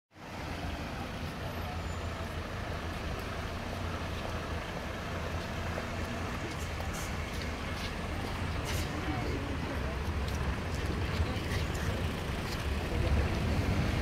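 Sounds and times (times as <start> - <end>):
cars on a wet street: 0.1 - 14.0
truck diesel engine rumble: 0.2 - 14.0.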